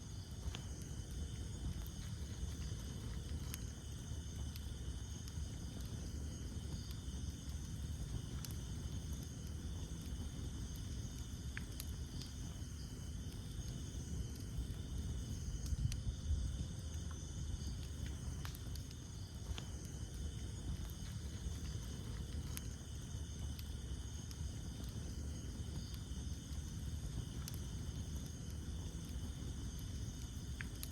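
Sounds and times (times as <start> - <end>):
campfire flames rumbling: 0.0 - 30.9
fire pops and crackles: 0.0 - 30.9
night insects chirring: 0.0 - 30.9.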